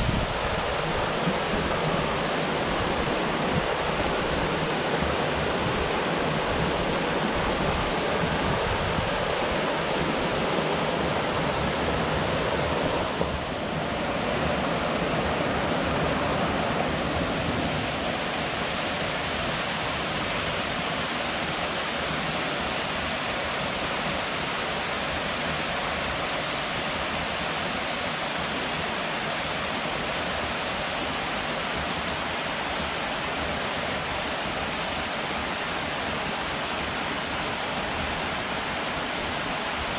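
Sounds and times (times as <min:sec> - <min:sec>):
river water rushing: 0:00.0 - 0:39.9
water falling from dam: 0:00.0 - 0:39.9.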